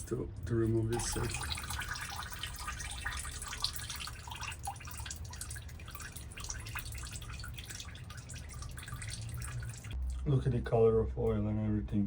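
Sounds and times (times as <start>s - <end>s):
fluid dripping into a container: 0.4s - 10.3s.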